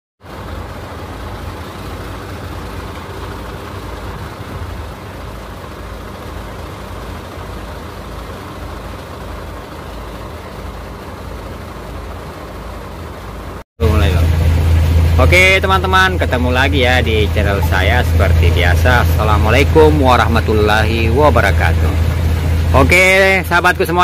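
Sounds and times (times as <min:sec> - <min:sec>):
truck diesel engine idling: 0:00.2 - 0:24.0.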